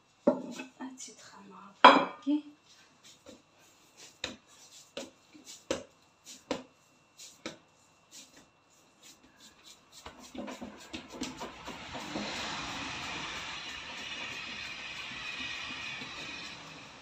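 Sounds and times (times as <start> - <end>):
rubbing and handling noise: 2.6 - 17.0.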